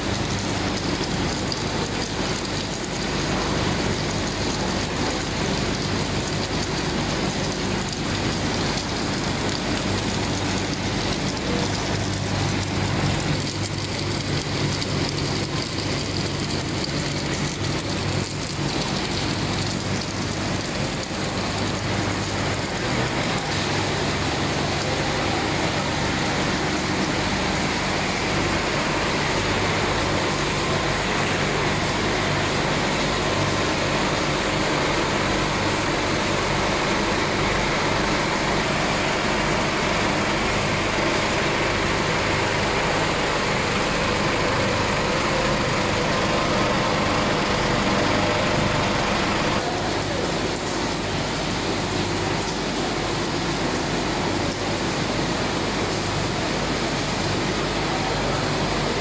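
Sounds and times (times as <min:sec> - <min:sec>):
low motor hum: 0:00.0 - 0:51.8
factory machinery roar: 0:00.0 - 0:59.0.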